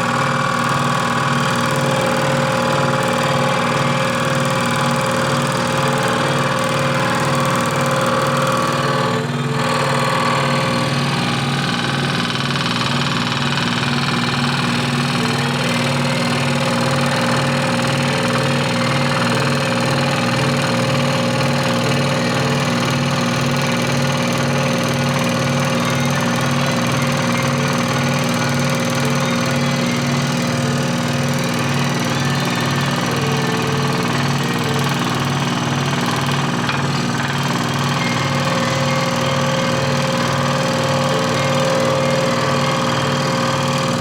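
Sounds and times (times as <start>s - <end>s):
scroll saw cutting wood: 0.0s - 44.0s.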